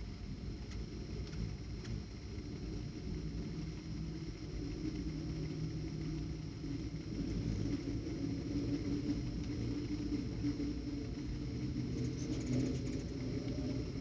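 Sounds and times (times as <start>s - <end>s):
hummingbird wings humming: 0.0s - 14.0s.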